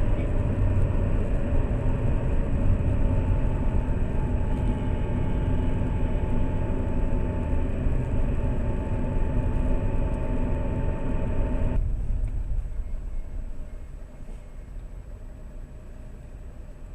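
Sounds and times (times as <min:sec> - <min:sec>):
car engine and road noise: 0:00.0 - 0:16.9
faint whine: 0:00.0 - 0:16.9.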